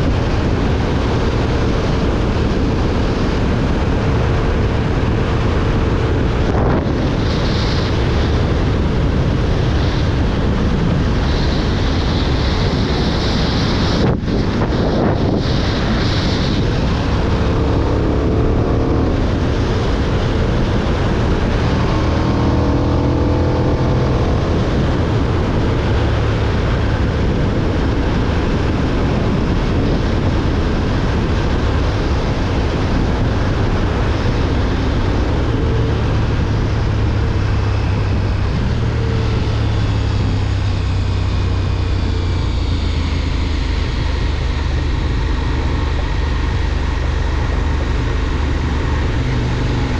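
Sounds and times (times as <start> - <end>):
motorcycle engine running: 0.0 - 49.9
wind rumble on microphone: 0.0 - 49.9.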